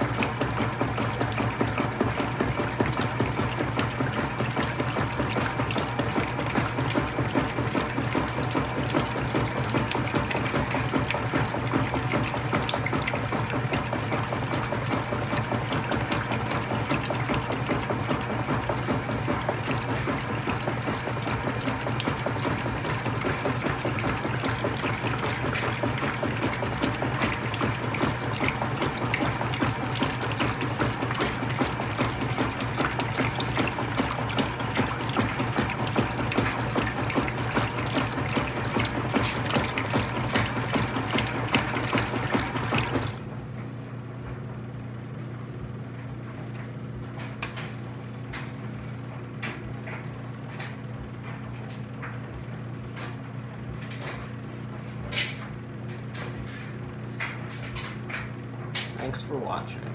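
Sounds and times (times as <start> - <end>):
water and clothes sloshing: 0.0 - 43.4, 46.0 - 59.9
washer motor humming: 0.0 - 59.9.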